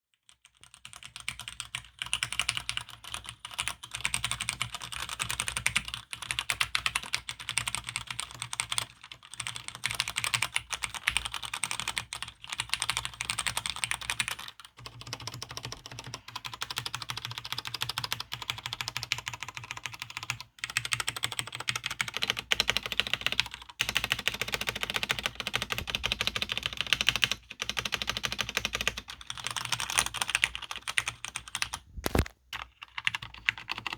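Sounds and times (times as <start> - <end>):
fast mechanical keyboard typing: 0.3 - 33.9.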